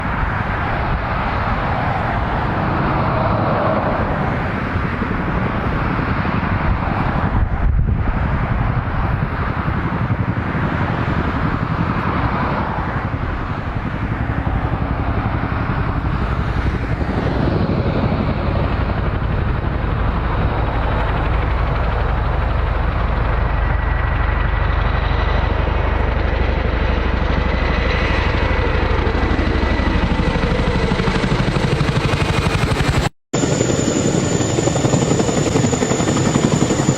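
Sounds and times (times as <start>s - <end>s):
helicopter rotors and engines: 0.0s - 36.9s.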